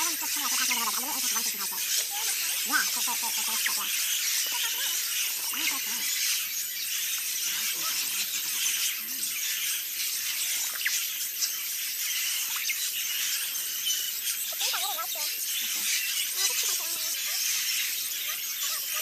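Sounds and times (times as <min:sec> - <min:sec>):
parrots squawking and chattering: 0:00.0 - 0:19.0.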